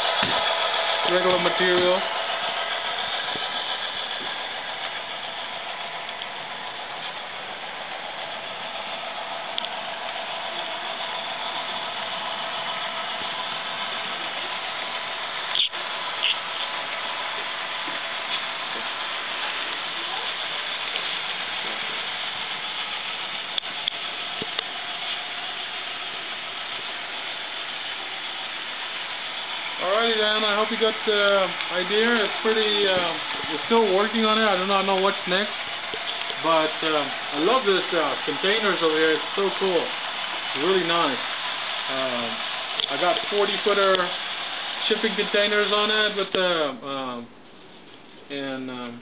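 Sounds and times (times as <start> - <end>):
model train diesel engine sound: 0.0 - 49.0.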